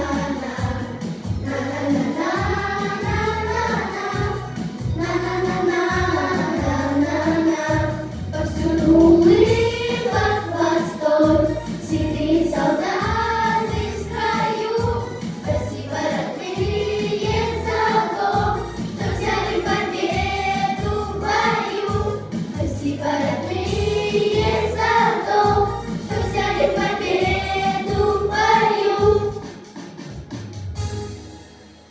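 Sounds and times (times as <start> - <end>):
children singing together: 0.0 - 29.7
backing track with steady beat: 0.0 - 31.8.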